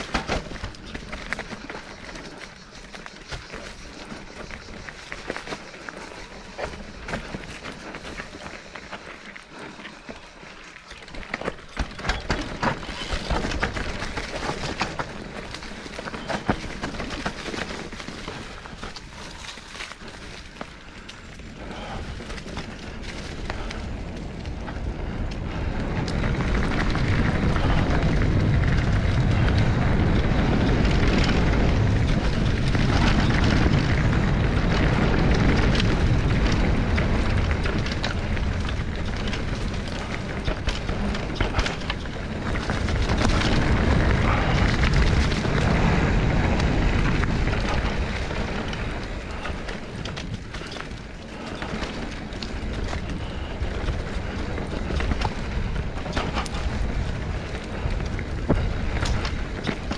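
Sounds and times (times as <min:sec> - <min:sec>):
wind buffeting microphone: 0:11.1 - 0:59.9.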